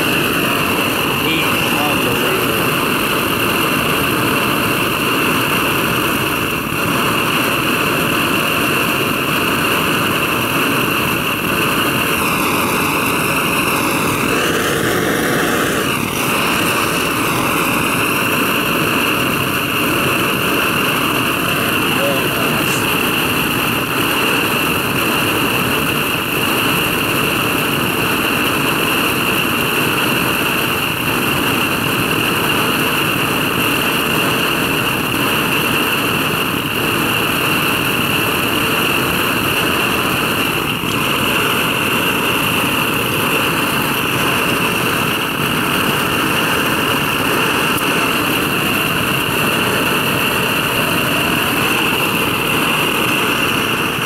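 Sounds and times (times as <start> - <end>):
blow torch hissing: 0.0 - 54.0.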